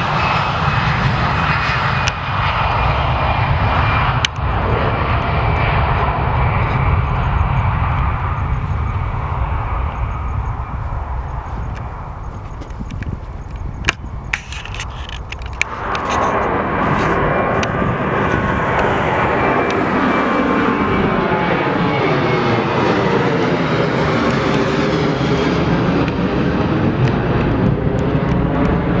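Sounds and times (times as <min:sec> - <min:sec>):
airplane engine noise: 0:00.0 - 0:29.0.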